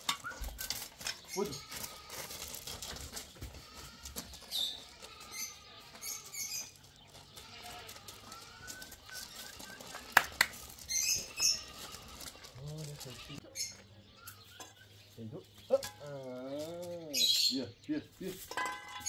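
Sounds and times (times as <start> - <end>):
footsteps on gravel: 0.0 - 17.5
dog's paws on gravel: 0.0 - 19.0.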